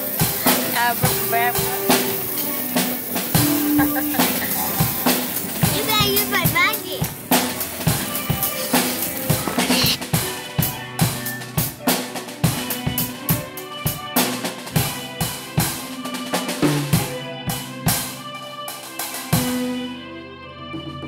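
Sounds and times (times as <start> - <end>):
drum kit playing steady beat: 0.0 - 20.0.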